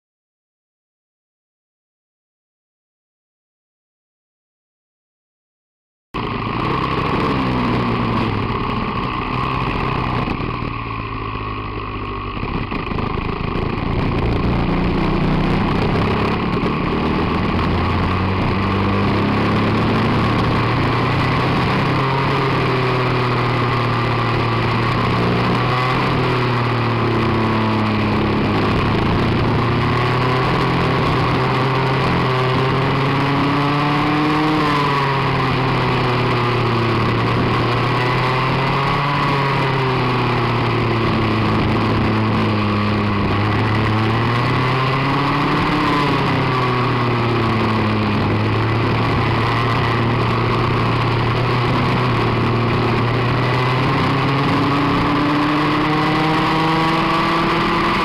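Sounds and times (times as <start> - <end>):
kart engine revving: 6.2 - 58.0.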